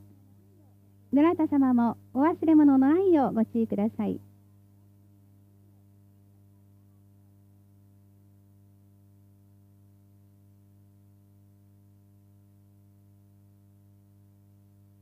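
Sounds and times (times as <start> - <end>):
faint mains hum: 0.0 - 15.0.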